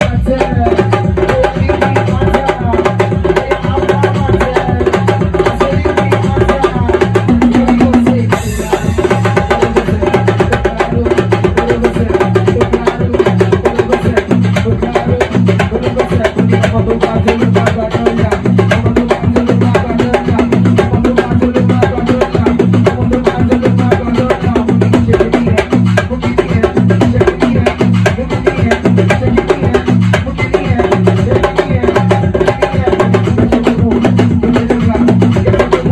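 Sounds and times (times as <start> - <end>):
fast busy drumming: 0.0 - 35.9
steady bass line: 0.0 - 35.9.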